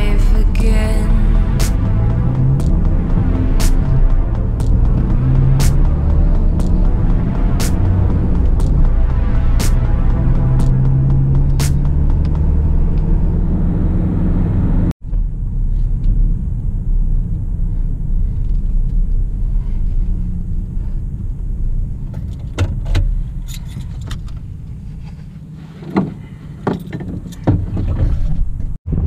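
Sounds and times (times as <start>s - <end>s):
car engine rumble: 0.0s - 29.0s
road noise inside car: 0.0s - 29.0s.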